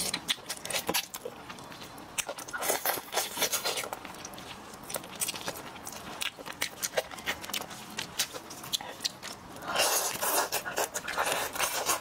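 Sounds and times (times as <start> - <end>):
chewing and biting: 0.0 - 12.0.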